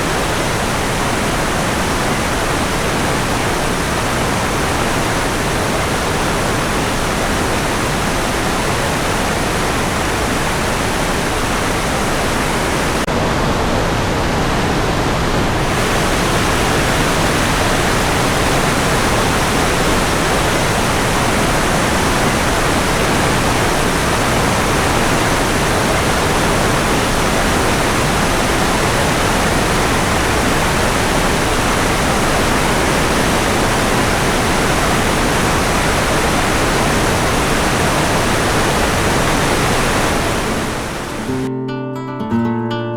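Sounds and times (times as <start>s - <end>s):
stream rushing over rocks: 0.0s - 41.5s.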